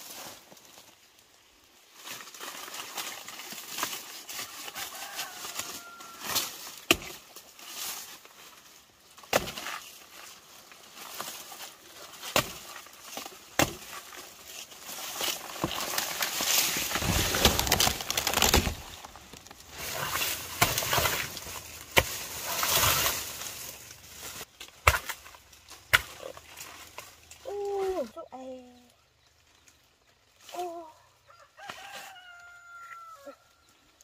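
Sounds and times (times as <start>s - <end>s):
leaves and dry grass rustling: 0.0s - 34.0s.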